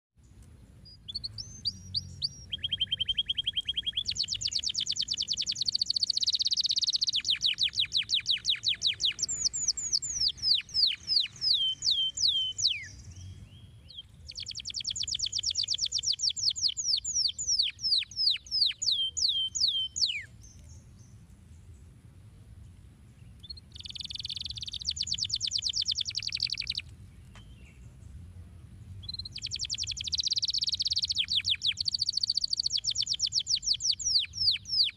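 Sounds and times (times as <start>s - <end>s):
canary singing trills: 0.8s - 21.2s, 23.3s - 27.7s, 29.0s - 34.9s.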